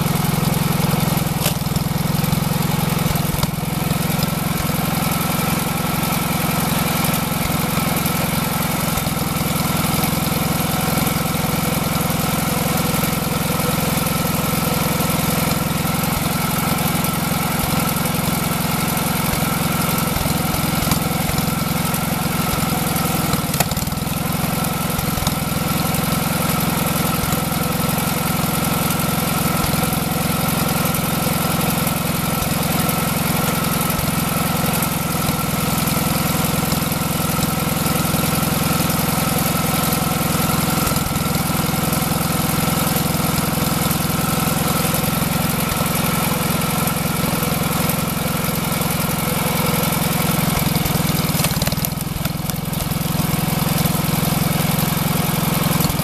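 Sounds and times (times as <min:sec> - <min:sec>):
log splitter engine running: 0:00.0 - 0:56.0.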